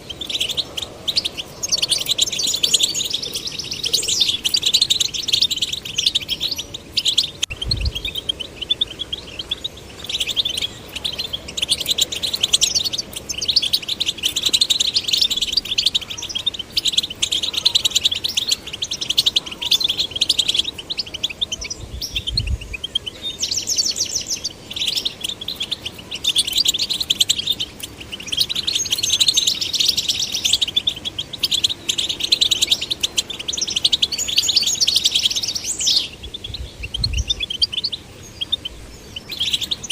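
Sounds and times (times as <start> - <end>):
finch twittering and trills: 0.0 - 39.9.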